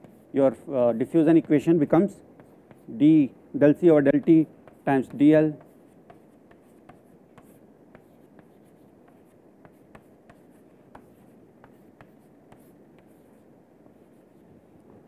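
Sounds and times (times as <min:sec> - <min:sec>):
chalk tapping and scratching: 0:00.0 - 0:03.2, 0:04.0 - 0:15.0.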